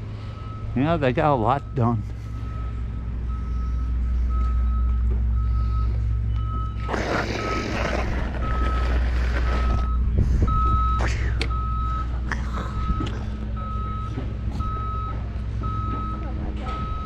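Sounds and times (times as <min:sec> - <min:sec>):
diesel engine rumble: 0:00.0 - 0:17.0
backup alarm beeping: 0:00.1 - 0:17.0.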